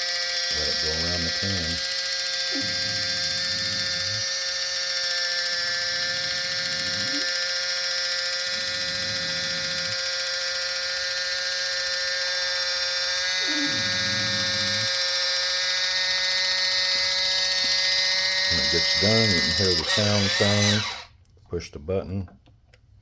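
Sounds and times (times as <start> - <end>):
electric can opener whining: 0.0 - 21.2.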